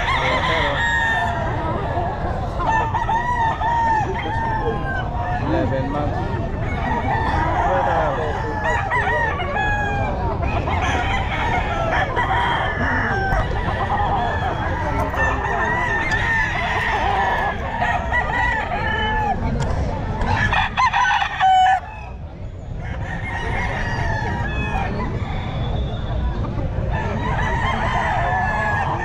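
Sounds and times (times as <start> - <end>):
roosters crowing and clucking: 0.0 - 29.0.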